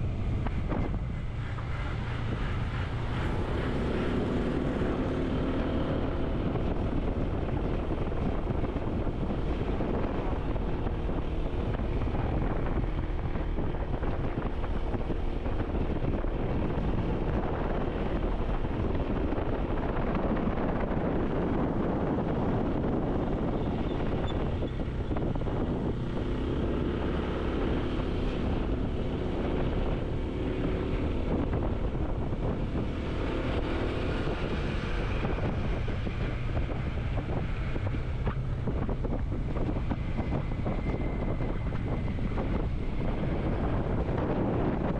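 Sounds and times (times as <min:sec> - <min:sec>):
road noise: 0:00.0 - 0:44.9
vehicle engine: 0:00.0 - 0:44.9
wind rushing over microphone: 0:00.0 - 0:44.9.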